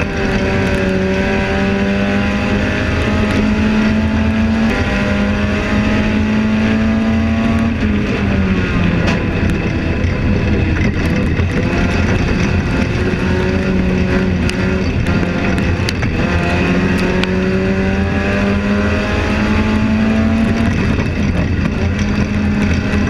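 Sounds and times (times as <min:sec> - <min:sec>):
race car engine running: 0:00.0 - 0:23.0.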